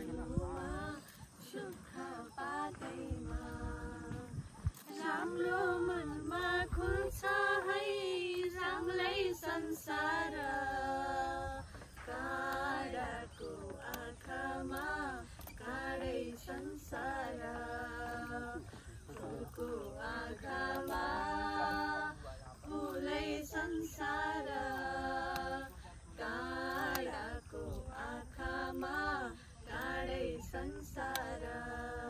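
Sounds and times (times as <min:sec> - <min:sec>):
women singing unaccompanied: 0:00.0 - 0:32.0.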